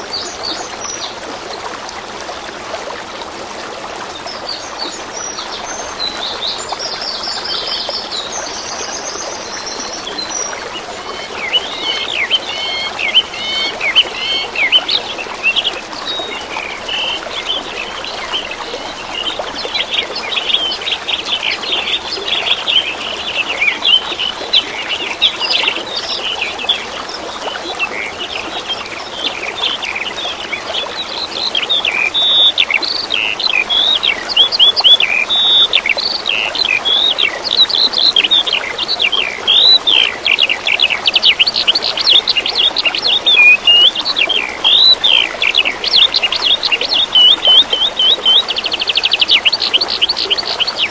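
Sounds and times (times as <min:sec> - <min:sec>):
stream water trickling: 0:00.0 - 0:50.9
small songbirds chirping: 0:04.0 - 0:50.9.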